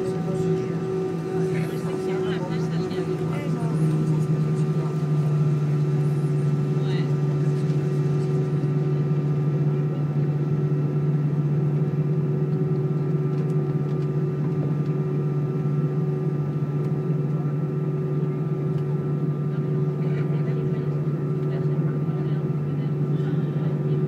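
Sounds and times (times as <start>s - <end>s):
jet engines droning in cabin: 0.0s - 24.0s.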